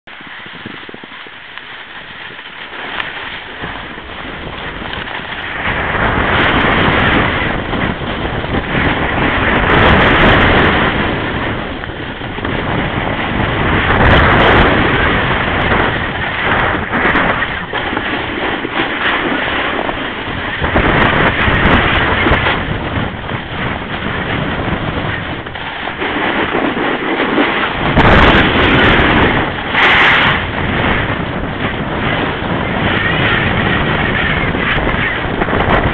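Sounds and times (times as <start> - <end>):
wind buffeting microphone: 0.0 - 35.9
ski edges scraping over snow: 0.1 - 35.9.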